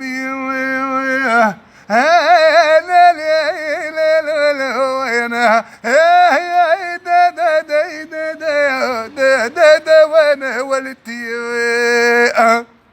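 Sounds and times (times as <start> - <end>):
man singing folk song: 0.0 - 12.8.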